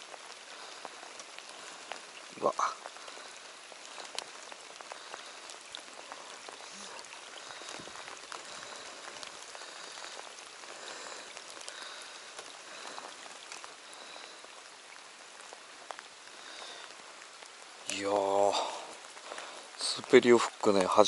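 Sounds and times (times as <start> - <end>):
light ticks of rain on boat: 0.0 - 21.0
rain falling on water: 0.0 - 21.0.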